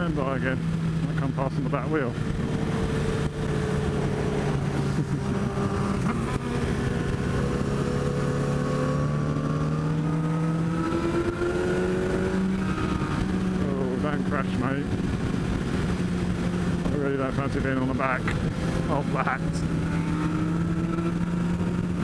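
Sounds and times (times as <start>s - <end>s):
motorcycle engine: 0.0s - 22.0s
wind noise: 2.0s - 22.0s.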